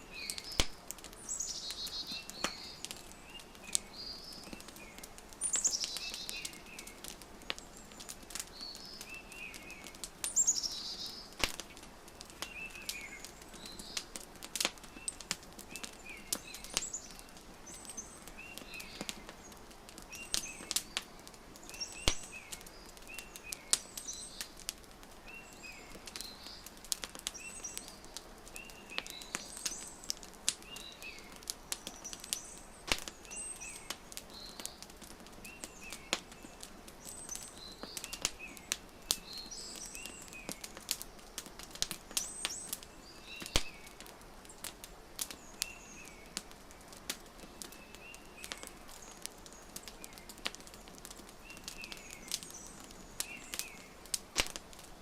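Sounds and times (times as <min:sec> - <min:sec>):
birds chirping: 0:00.0 - 0:55.0
wood fire crackling: 0:00.0 - 0:55.0.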